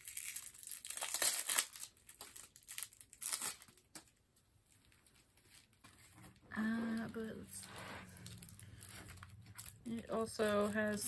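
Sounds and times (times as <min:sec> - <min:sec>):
plastic shrink-wrap crinkling and tearing: 0:00.0 - 0:11.0.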